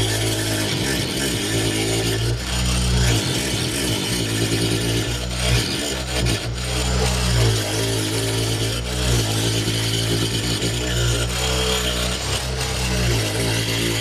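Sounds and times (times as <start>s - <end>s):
angle grinder running: 0.0s - 14.0s
chisel shaving wood: 0.0s - 14.0s.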